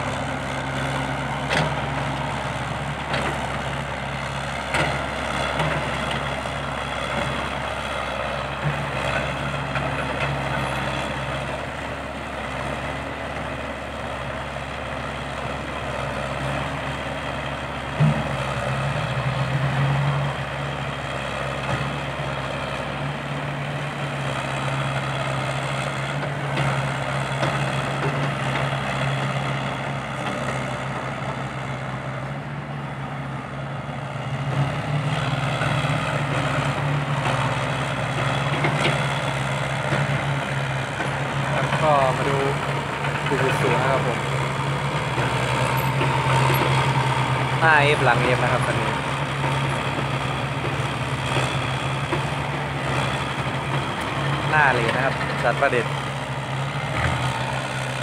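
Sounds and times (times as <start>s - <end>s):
dump truck engine running: 0.0s - 58.0s
excavator diesel engine running: 0.0s - 58.0s.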